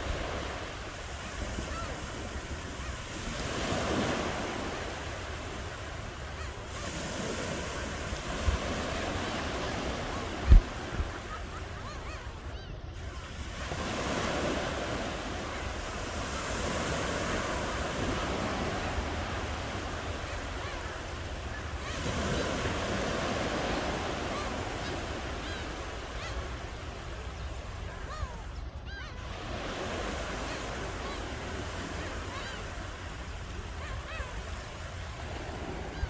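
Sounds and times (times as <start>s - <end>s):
ocean waves washing ashore: 0.0s - 36.0s.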